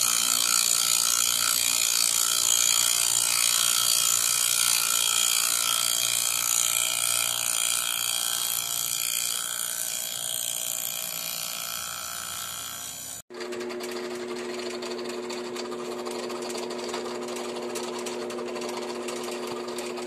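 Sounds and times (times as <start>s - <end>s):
machine hum: 0.0s - 20.0s
router spindle whine and cutter chatter: 0.0s - 20.0s.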